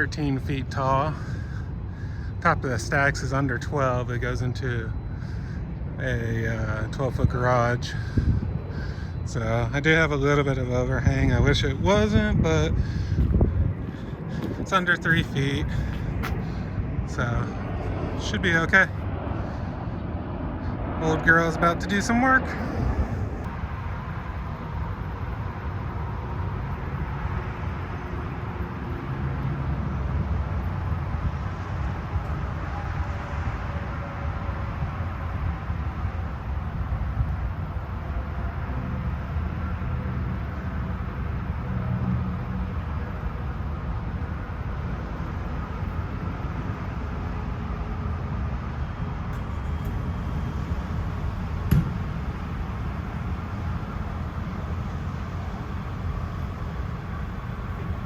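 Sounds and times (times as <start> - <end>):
diesel truck engine rumbling: 0.0 - 39.1, 49.0 - 58.0.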